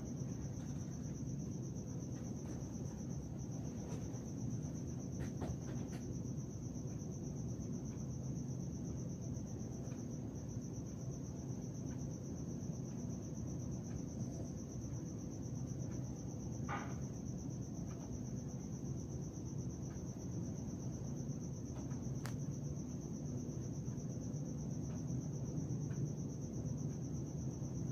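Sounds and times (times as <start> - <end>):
cricket trilling: 0.0 - 27.9
low background hum: 0.0 - 27.9.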